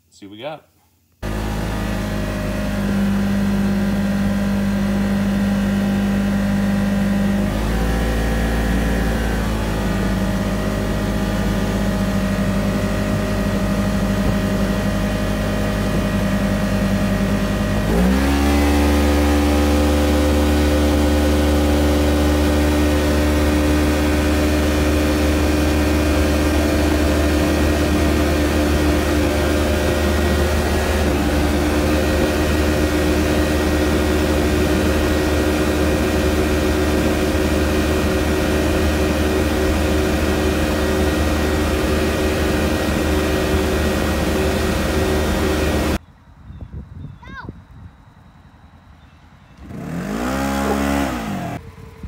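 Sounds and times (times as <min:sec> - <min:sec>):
twin-cylinder engine running: 0:01.2 - 0:46.0, 0:47.7 - 0:52.0.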